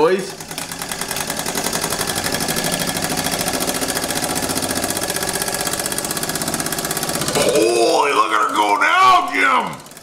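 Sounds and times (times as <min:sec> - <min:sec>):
steam engine chuffing: 0:00.0 - 0:10.0.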